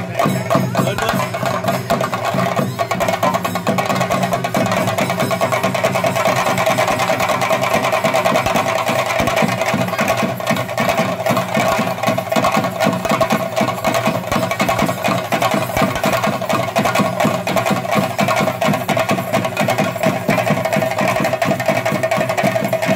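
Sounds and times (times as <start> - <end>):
drums in a fast rhythm: 0.0 - 22.9.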